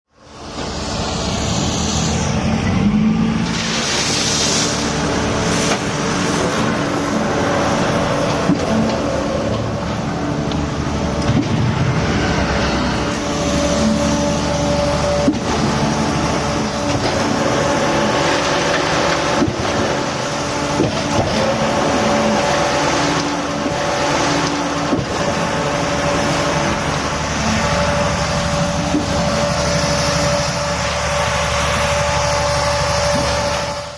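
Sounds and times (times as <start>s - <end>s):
concrete mixer pump running: 0.1s - 33.9s.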